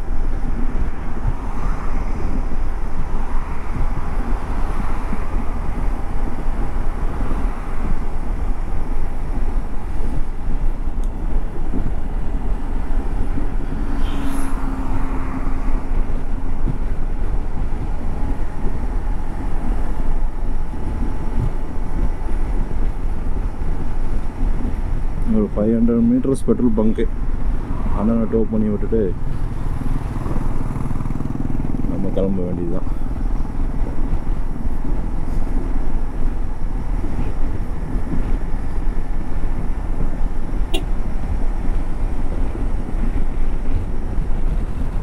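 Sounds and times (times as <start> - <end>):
road noise: 0.0 - 45.0
wind rushing over microphone: 0.0 - 45.0.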